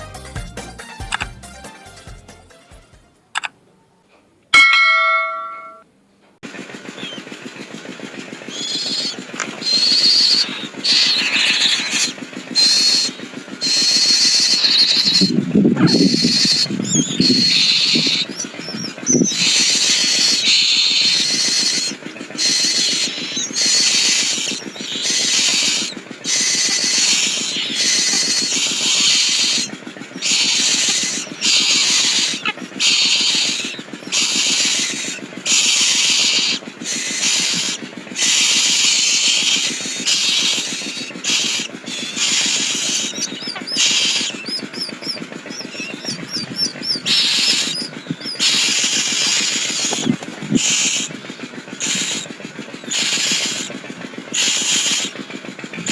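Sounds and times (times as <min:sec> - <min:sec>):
myna loud high calls: 0:08.5 - 0:53.8, 0:54.4 - 0:55.2.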